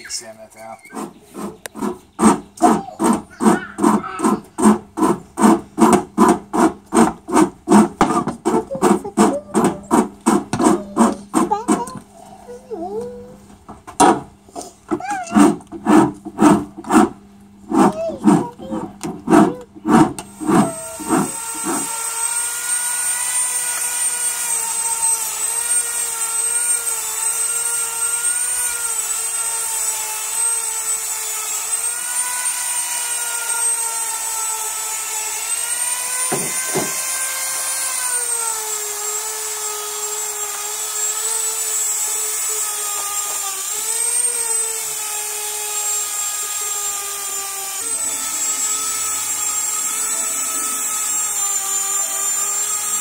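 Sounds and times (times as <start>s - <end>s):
power tool motor whining: 0.0s - 53.0s.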